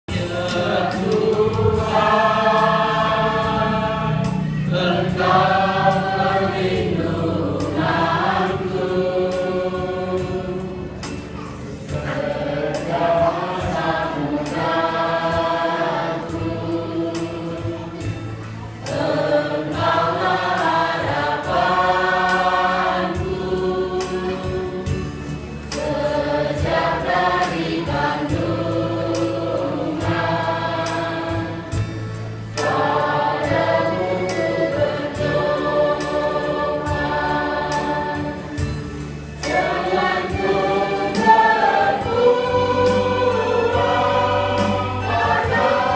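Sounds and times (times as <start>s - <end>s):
church choir singing: 0.1s - 45.9s.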